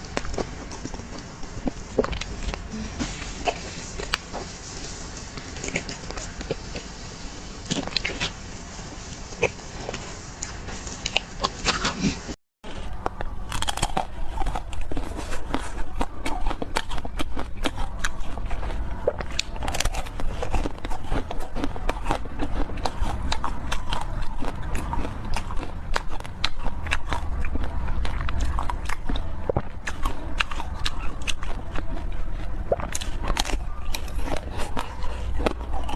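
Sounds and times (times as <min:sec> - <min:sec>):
biting and chewing cake: 0:00.0 - 0:35.9.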